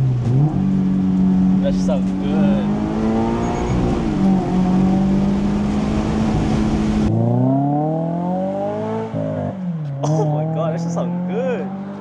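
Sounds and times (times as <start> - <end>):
car engine revving: 0.0 - 12.0
road and wind rush: 0.0 - 12.0.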